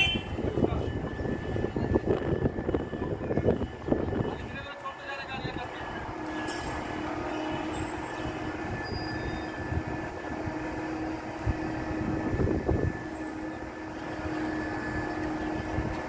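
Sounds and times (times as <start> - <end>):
heavy construction machinery droning: 0.0 - 16.0.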